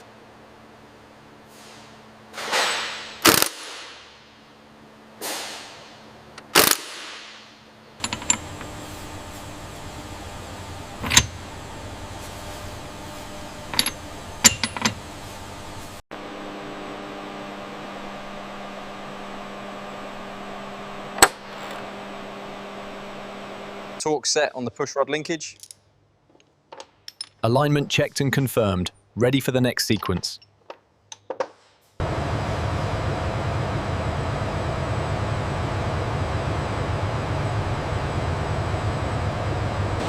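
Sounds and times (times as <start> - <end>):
steady hum: 0.0 - 24.1, 32.0 - 40.0.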